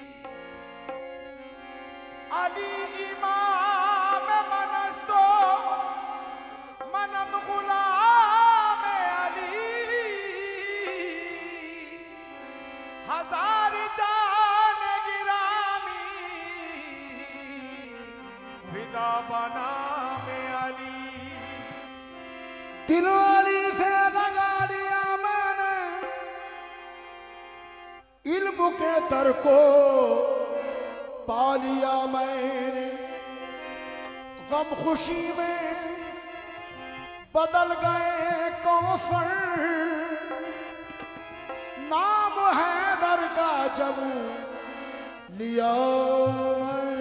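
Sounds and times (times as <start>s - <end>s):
harmonium sustained notes: 0.0s - 47.0s
devotional singing with vibrato: 1.4s - 47.0s.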